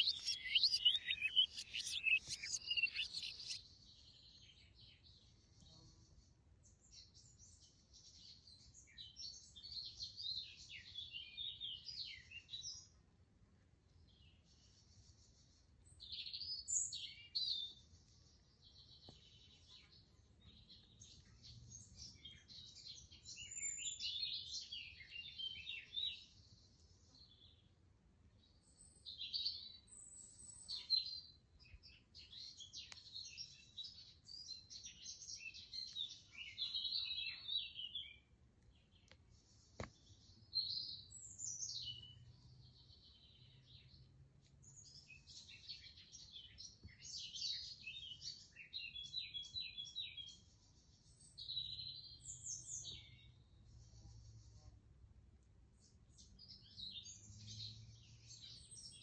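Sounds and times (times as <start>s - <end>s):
small birds twittering: 0.0s - 13.0s, 14.1s - 27.6s, 28.4s - 54.7s, 55.8s - 59.0s.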